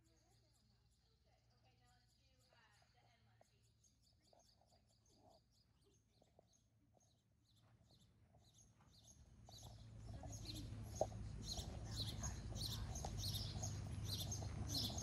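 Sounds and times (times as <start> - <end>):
low background noise: 0.0 - 15.0
small bird chirping: 0.0 - 15.0.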